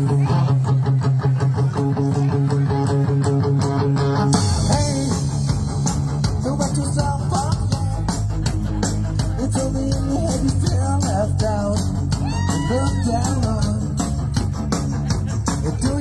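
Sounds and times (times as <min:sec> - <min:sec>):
bass: 0:00.0 - 0:16.0
drums: 0:00.0 - 0:16.0
electric guitar: 0:00.0 - 0:16.0.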